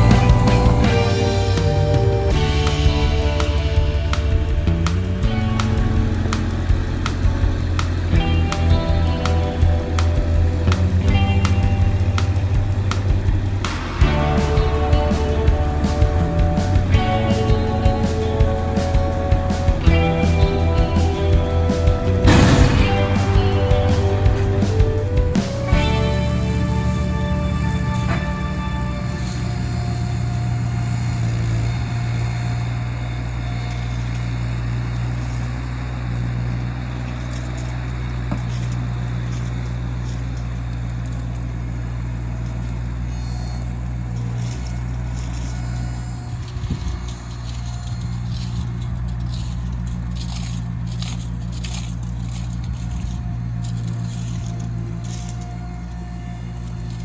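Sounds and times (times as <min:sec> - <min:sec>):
crackling and scraping: 0:00.0 - 0:57.0
engine humming: 0:00.0 - 0:57.0.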